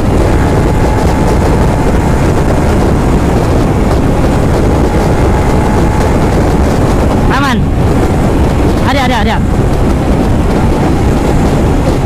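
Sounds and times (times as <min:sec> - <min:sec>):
road noise: 0:00.0 - 0:12.0
wind rushing: 0:00.0 - 0:12.0.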